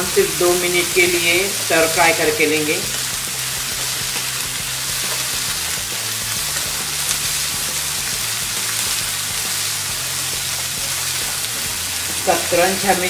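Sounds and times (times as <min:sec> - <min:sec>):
vegetables sizzling in butter: 0:00.0 - 0:13.0.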